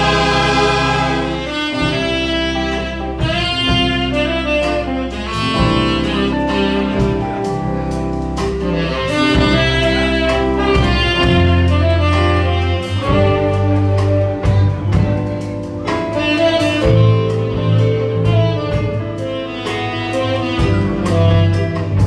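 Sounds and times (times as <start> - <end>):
orchestra holding notes: 0.0 - 22.0
sustained bass line: 0.0 - 22.0.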